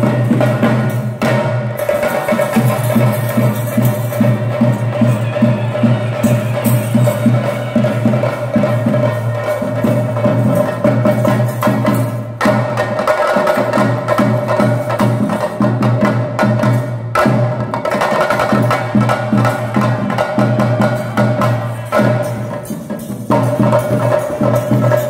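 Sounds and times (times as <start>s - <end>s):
drum ensemble playing fast: 0.0s - 25.0s.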